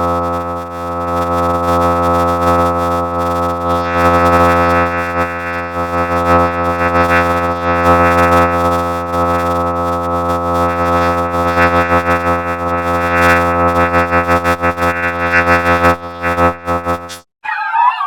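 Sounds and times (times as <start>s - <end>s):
synthesizer drone: 0.0s - 17.2s.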